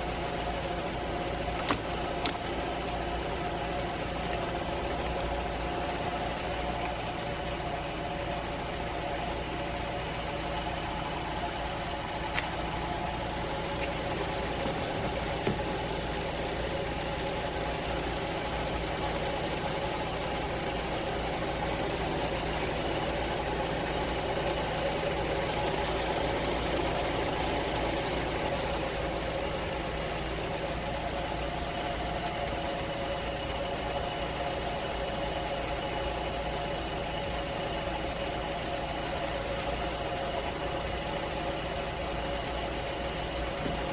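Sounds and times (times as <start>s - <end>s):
motor humming with slight rattle: 0.0s - 43.9s.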